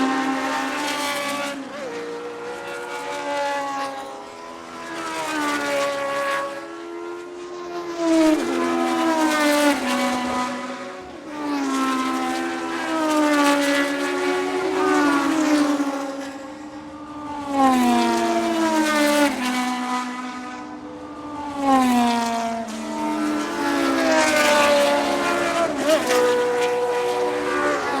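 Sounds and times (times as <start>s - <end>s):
race cars passing at speed: 0.0s - 28.0s.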